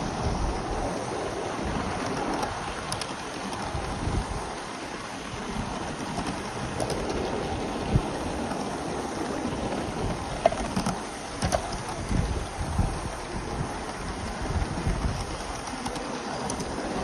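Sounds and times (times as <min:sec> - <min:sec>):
model steam train rushing: 0:00.0 - 0:17.0
wheels clicking on track: 0:00.0 - 0:17.0.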